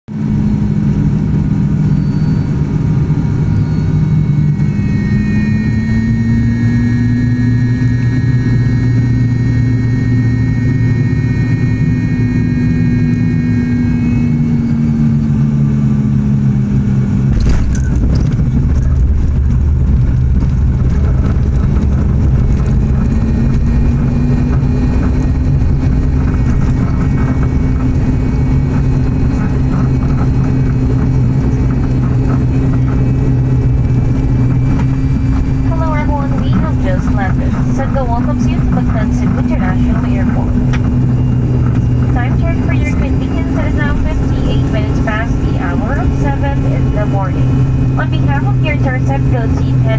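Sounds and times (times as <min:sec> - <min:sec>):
propeller drone inside cabin: 0:00.1 - 0:49.9
rough low rollout rumble: 0:00.1 - 0:49.9.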